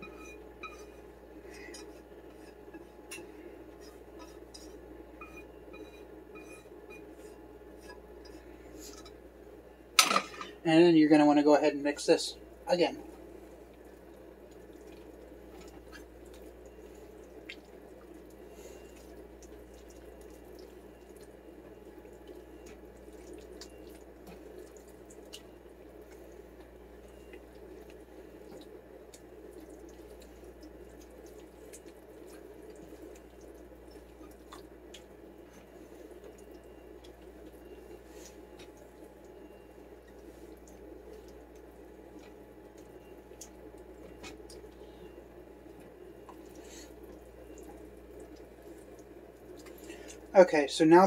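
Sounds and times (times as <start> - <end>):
wet squelching of stirred food: 0.0 - 9.2, 13.1 - 50.3.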